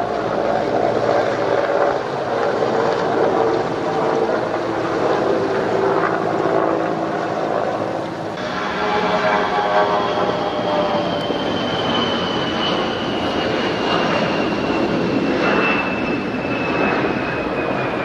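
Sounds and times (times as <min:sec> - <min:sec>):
jet flying over: 0:00.0 - 0:18.0.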